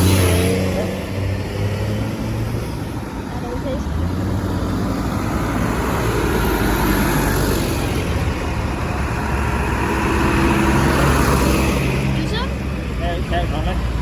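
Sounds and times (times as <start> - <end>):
tractor diesel engines droning: 0.0 - 14.0.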